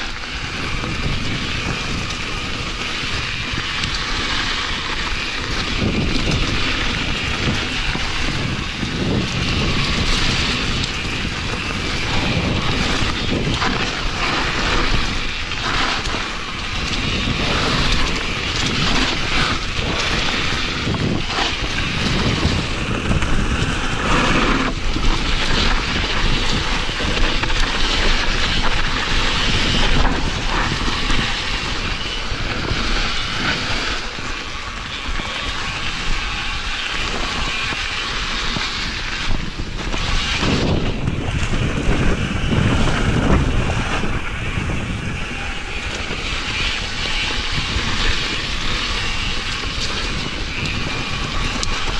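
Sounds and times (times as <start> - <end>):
tyre noise on dirt: 0.0 - 51.9
wind buffeting microphone: 0.0 - 51.9.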